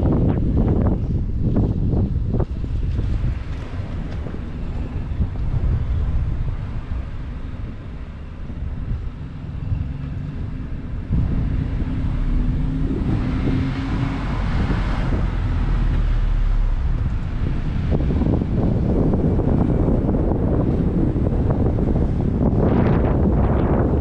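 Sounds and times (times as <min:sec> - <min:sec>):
car engine and road rumble: 0:00.0 - 0:24.0
wind buffeting microphone: 0:00.0 - 0:24.0.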